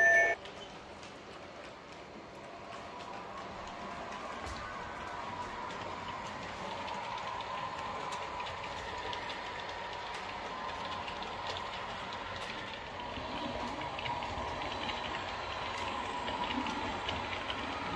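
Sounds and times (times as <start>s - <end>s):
wheels clicking on rails: 0.0s - 17.9s.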